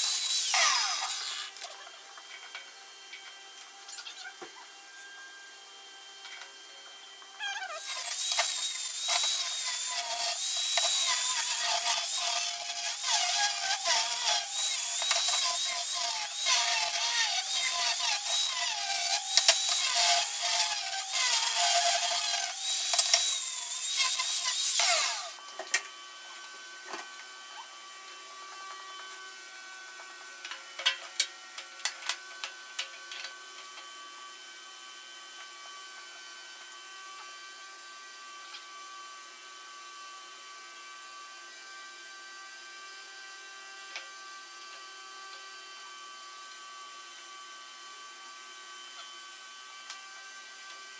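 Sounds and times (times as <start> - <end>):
power tool working metal: 0.0 - 50.9.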